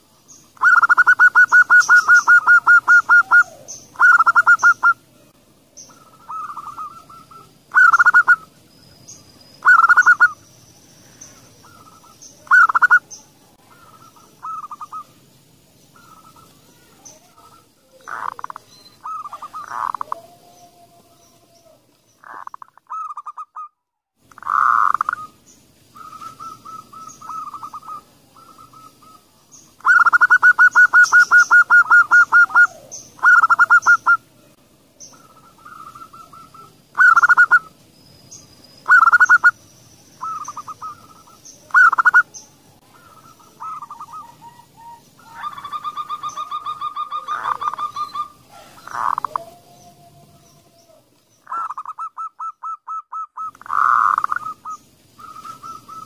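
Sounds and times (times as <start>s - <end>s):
doves cooing: 0.0s - 8.6s, 9.6s - 10.4s, 11.2s - 23.7s, 24.3s - 34.4s, 35.0s - 37.8s, 38.8s - 56.0s.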